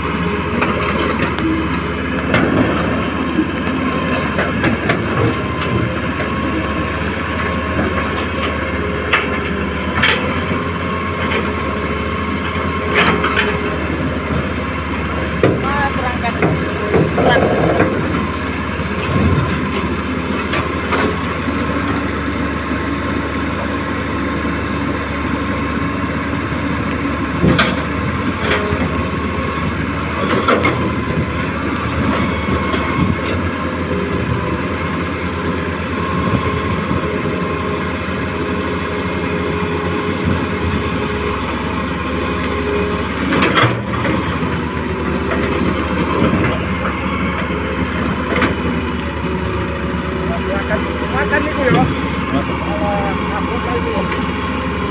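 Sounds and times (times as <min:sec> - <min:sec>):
excavator engine running: 0:00.0 - 0:54.9
excavator knocks and clanks: 0:00.0 - 0:54.9.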